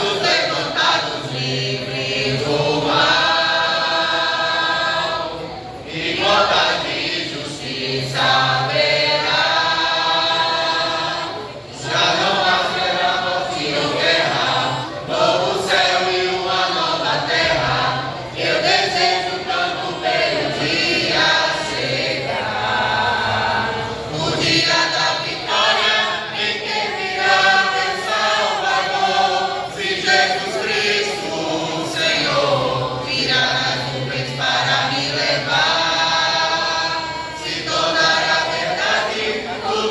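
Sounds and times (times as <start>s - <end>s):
choir singing gospel: 0.0s - 39.9s.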